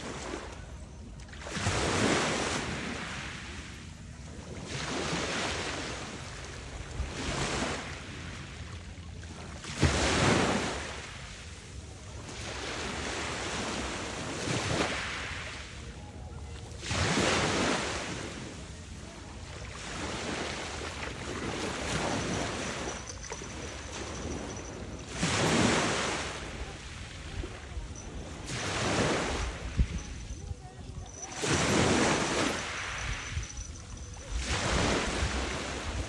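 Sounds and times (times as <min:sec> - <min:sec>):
small waves breaking on shore: 0:00.0 - 0:36.0.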